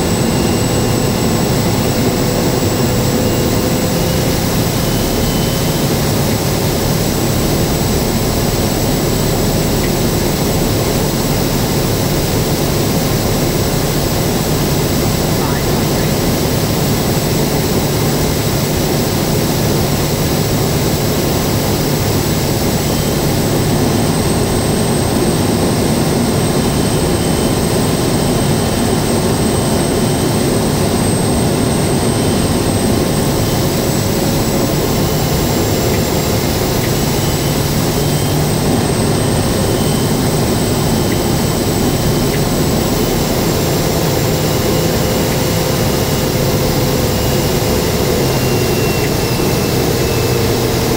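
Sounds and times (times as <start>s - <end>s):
high turbine whine: 0.0s - 50.9s
turboprop engine drone: 0.0s - 50.9s.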